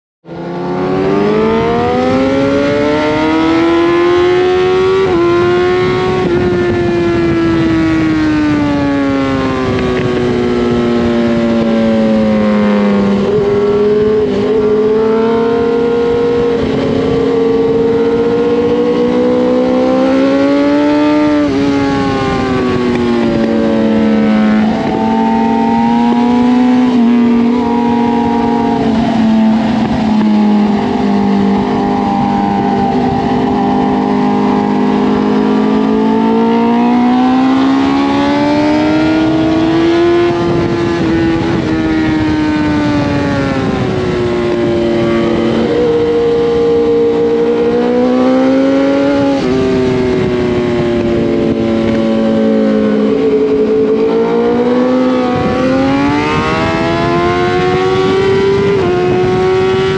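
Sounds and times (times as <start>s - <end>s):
motorcycle engine at high revs: 0.2s - 59.9s
wind noise: 0.2s - 59.9s.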